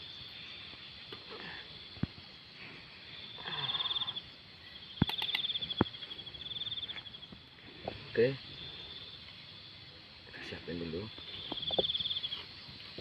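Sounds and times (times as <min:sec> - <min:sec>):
insects trilling in fast pulses: 0:00.0 - 0:13.0
steady high insect hum: 0:00.0 - 0:13.0.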